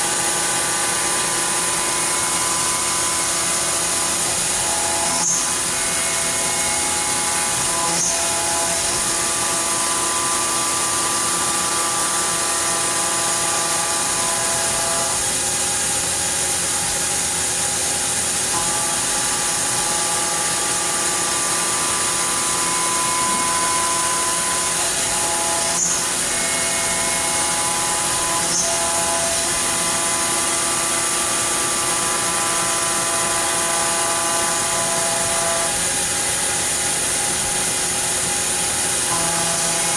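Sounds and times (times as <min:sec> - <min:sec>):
machine hissing: 0:00.0 - 0:39.9
machine whining tones: 0:00.0 - 0:39.9.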